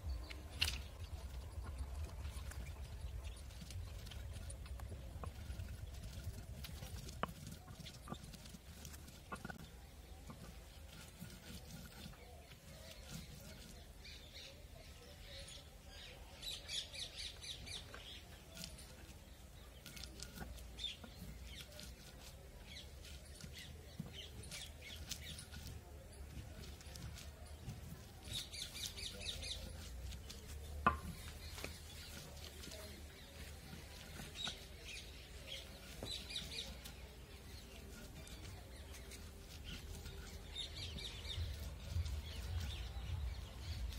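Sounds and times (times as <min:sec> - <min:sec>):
stone crushing dried chillies: 0:00.0 - 0:14.5, 0:17.6 - 0:43.9
birds chirping trills: 0:00.0 - 0:43.9.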